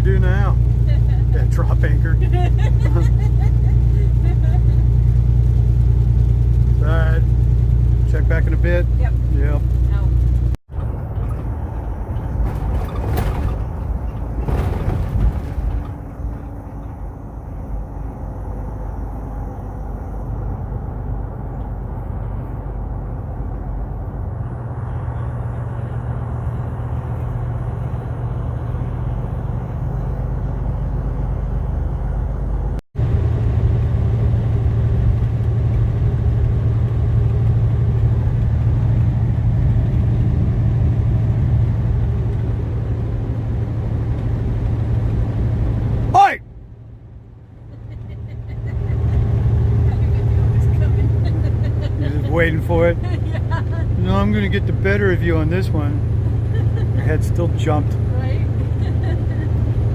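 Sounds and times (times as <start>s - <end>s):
road noise: 0.0s - 59.9s
truck engine rumble: 0.0s - 59.9s.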